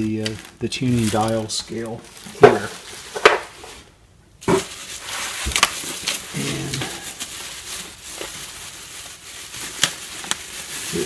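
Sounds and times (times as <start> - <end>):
bubble wrap and cardboard rustling: 0.0 - 11.0.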